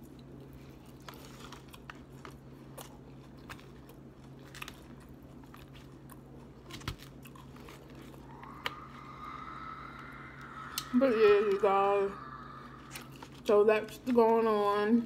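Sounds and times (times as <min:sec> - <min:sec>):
chewing and crunching greens: 0:00.0 - 0:11.6, 0:12.2 - 0:15.0
low steady hum: 0:00.0 - 0:15.0.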